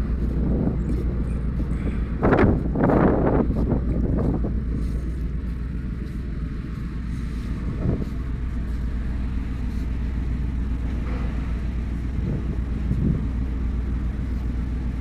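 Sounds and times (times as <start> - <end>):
ship engine hum: 0.0 - 15.0
wind buffeting microphone: 0.0 - 15.0.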